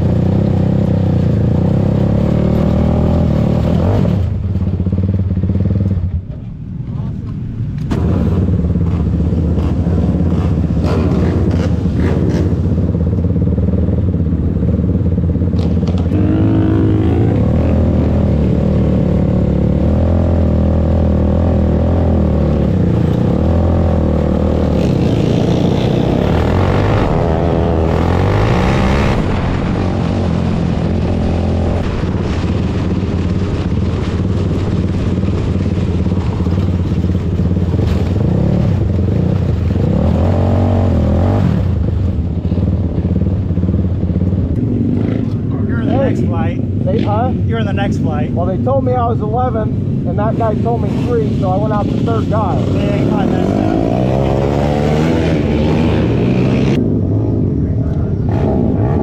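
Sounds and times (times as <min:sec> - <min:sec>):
kart engines running hard: 0:00.0 - 0:47.4.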